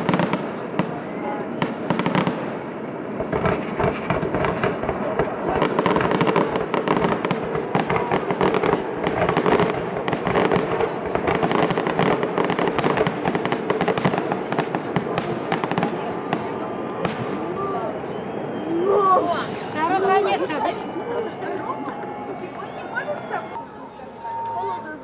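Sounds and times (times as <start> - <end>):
fireworks bangs and crackles: 0.0 - 24.8.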